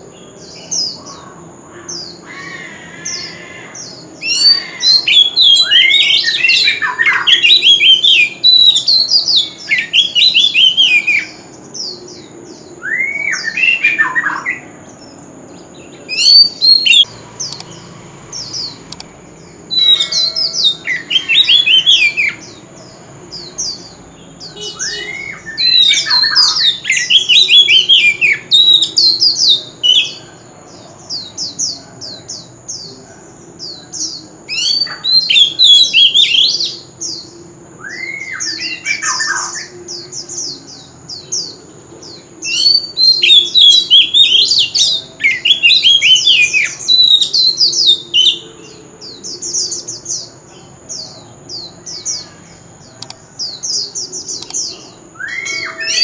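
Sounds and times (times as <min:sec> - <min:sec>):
bird singing whistled notes: 0:02.0 - 0:30.4, 0:33.6 - 0:56.0.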